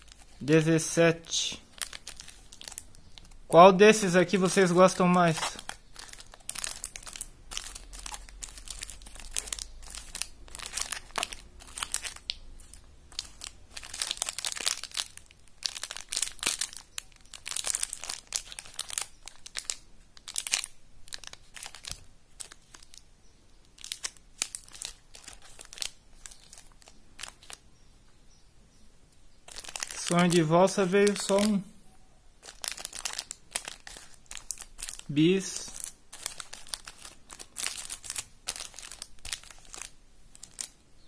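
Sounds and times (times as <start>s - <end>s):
wrappers crinkling: 0.0s - 23.0s, 23.6s - 27.6s, 29.4s - 31.6s, 32.4s - 40.8s.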